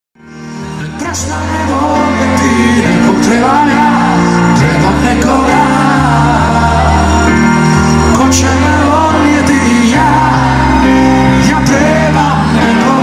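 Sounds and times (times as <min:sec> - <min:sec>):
stage keyboard: 0:00.2 - 0:13.0
electric bass: 0:00.6 - 0:13.0
man singing: 0:00.8 - 0:13.0.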